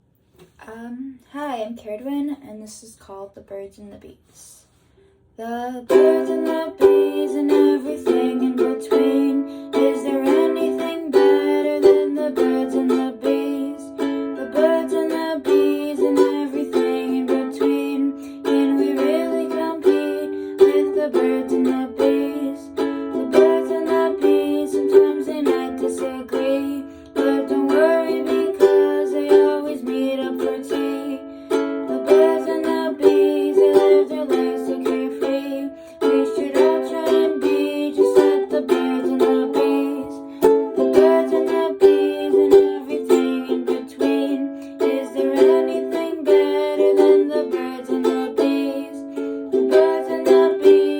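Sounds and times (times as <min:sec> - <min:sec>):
strummed string instrument song: 0:05.9 - 0:50.9.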